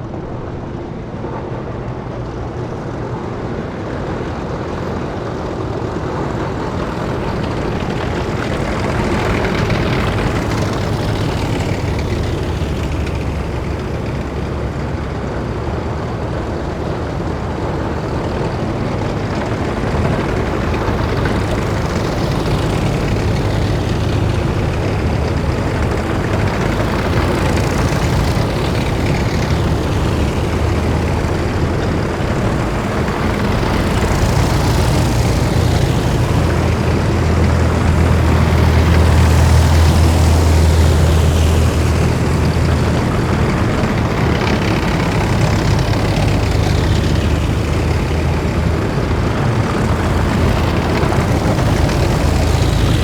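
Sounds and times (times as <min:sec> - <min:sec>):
heavy vehicles engine noise: 0:00.0 - 0:53.0.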